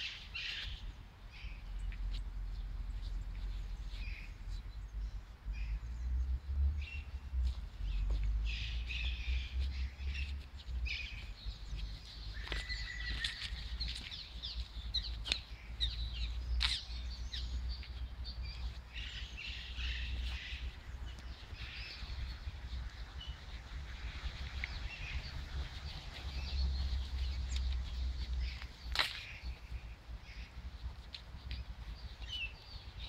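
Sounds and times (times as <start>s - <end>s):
songbirds chirping: 0.0s - 33.0s
steady low rumble: 0.0s - 33.0s.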